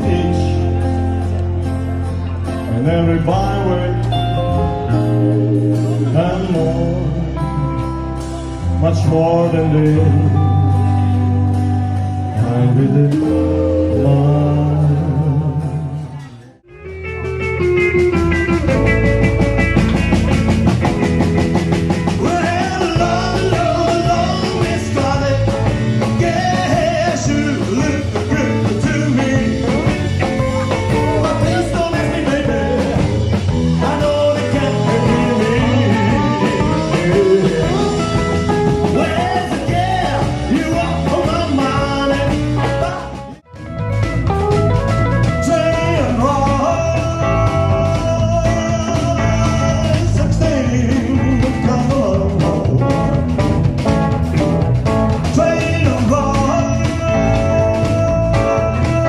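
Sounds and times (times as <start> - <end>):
blues rock music with guitar: 0.0 - 59.0.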